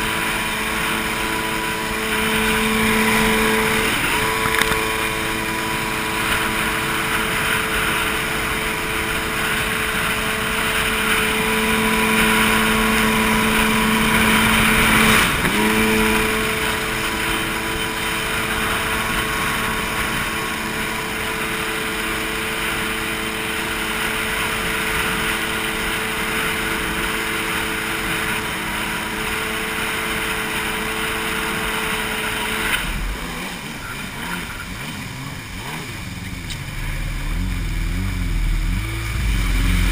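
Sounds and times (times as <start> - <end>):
jet ski engine: 0.0 - 39.9.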